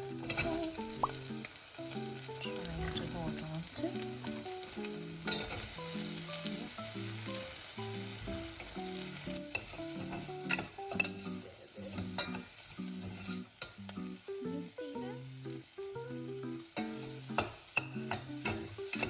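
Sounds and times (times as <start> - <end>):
onions sizzling in oil: 0.0 - 19.0
soft background music: 0.0 - 19.0.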